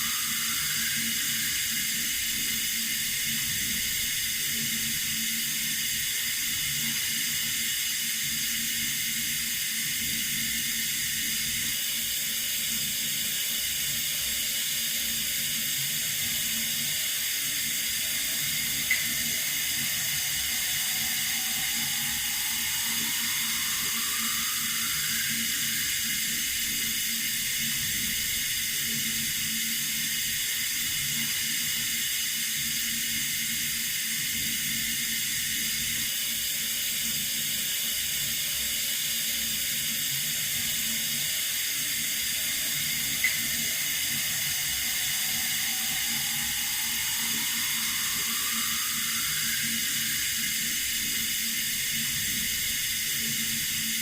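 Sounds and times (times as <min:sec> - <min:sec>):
running water from a tap: 0:00.0 - 0:54.0.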